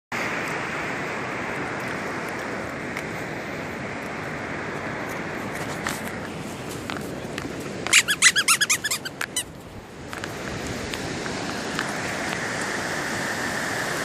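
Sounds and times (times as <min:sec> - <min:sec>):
ocean surf rushing: 0:00.2 - 0:14.0.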